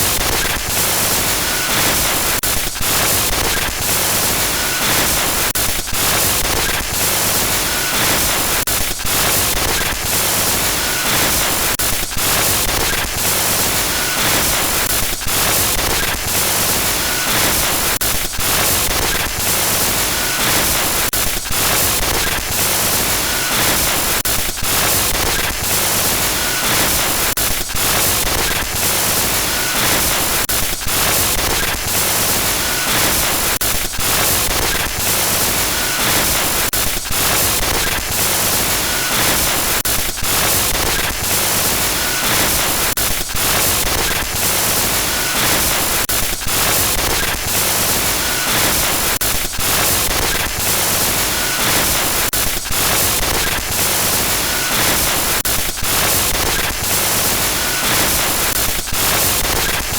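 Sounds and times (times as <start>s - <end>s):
static glitch noise: 0.0s - 59.9s.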